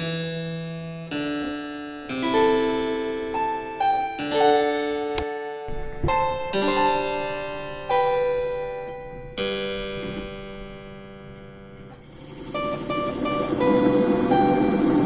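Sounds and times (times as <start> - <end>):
slow harpsichord-like keyboard chords: 0.0 - 15.0.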